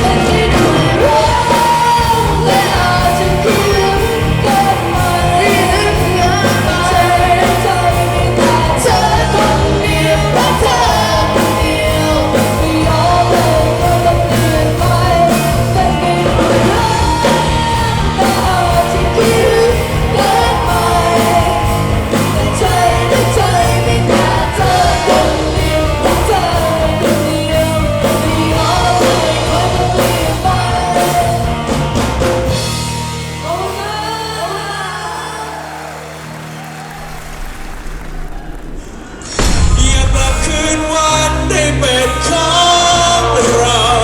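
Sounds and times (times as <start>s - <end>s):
pop-rock song with vocals: 0.0s - 37.1s, 38.2s - 44.0s.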